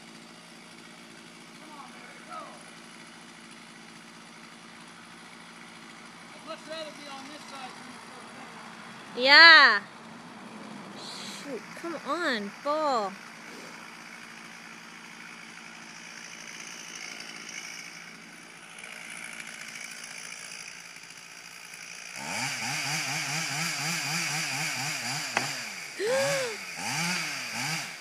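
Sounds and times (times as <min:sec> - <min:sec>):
chainsaw cutting wood: 0:00.0 - 0:09.7, 0:10.6 - 0:28.0.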